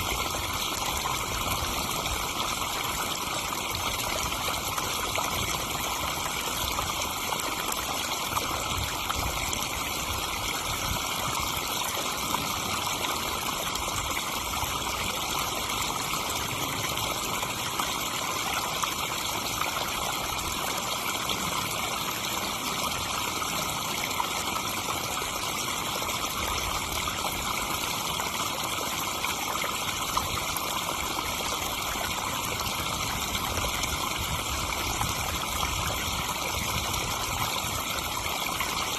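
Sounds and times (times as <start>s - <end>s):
waterfall splashing into pond: 0.0s - 38.9s.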